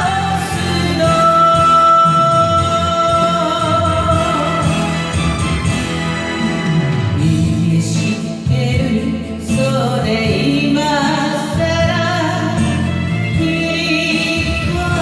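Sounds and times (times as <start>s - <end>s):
instrumental backing track: 0.0s - 15.0s
woman singing pop song: 0.0s - 15.0s.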